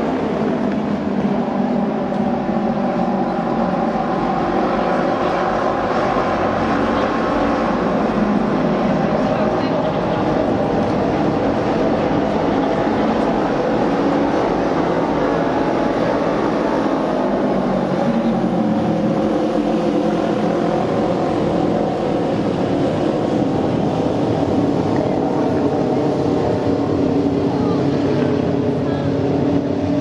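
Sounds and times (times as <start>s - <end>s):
racing motorcycle engines droning: 0.0s - 30.0s.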